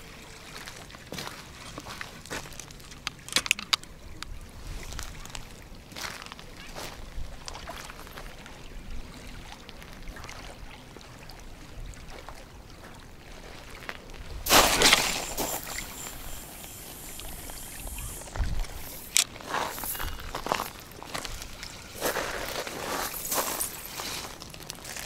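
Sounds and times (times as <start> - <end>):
waves lapping on gravel: 0.2 - 3.8, 4.6 - 8.3, 12.1 - 25.0.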